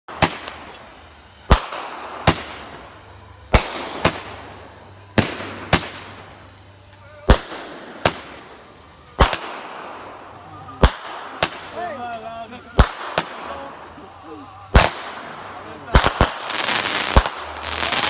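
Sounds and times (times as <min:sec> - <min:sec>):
fireworks bangs echoing: 0:00.1 - 0:12.1, 0:12.7 - 0:18.0.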